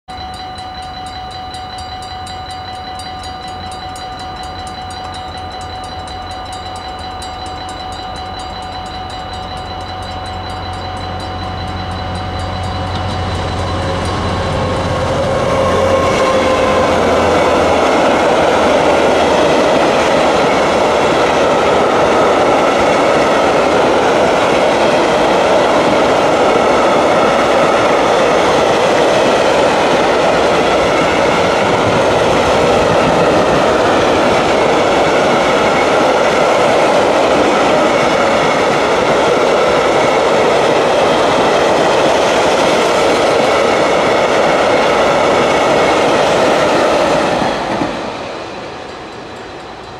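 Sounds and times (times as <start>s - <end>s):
freight train wheels rumbling on rails: 0.1s - 49.9s.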